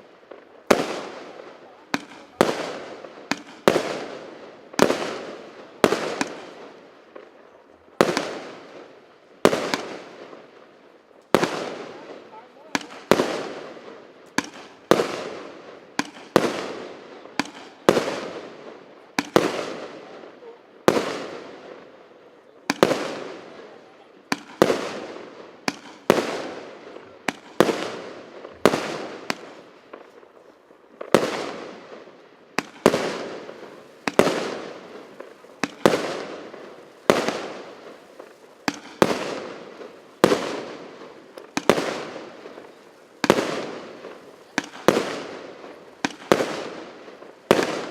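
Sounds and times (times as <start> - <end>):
fireworks bangs echoing: 0.0 - 47.9.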